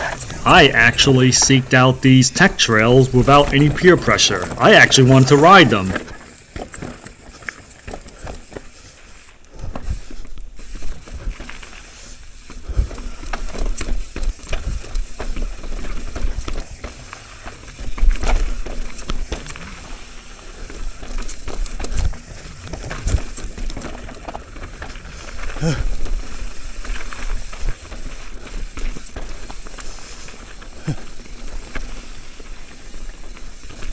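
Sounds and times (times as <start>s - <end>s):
bike clattering over rocks: 6.0s - 33.9s.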